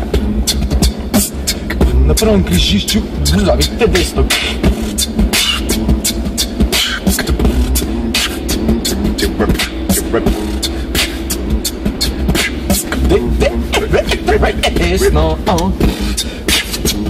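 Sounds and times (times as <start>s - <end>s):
beatboxing: 0.0s - 17.0s
car rumble: 0.0s - 17.0s.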